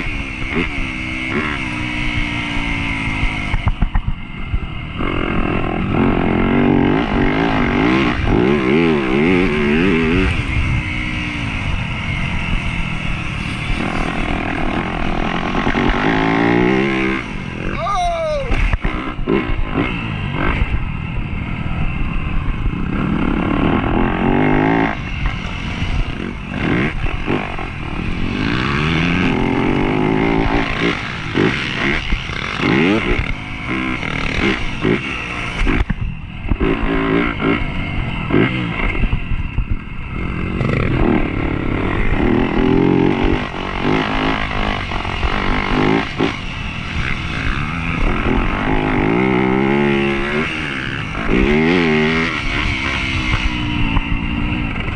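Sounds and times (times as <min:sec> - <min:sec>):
dirt bike engine revving: 0:00.0 - 0:39.4, 0:40.0 - 0:54.9.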